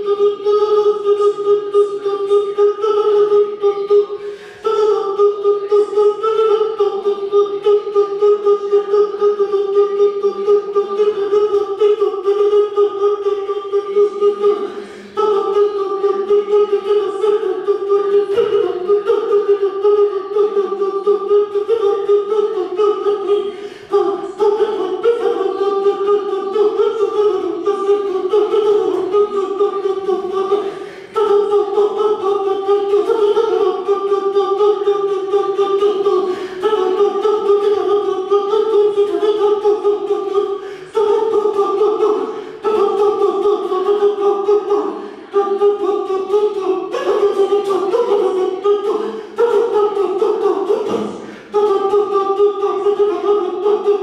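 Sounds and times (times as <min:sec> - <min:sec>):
person singing unaccompanied: 0:00.0 - 0:54.0.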